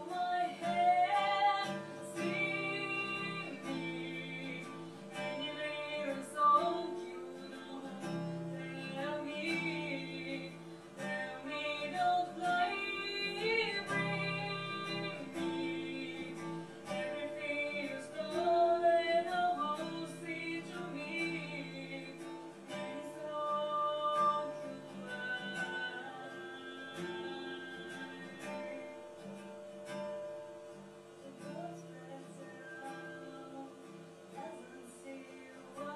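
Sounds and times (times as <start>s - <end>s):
woman singing: 0.0s - 29.6s, 31.2s - 35.9s
acoustic guitar strumming chords: 0.0s - 35.9s.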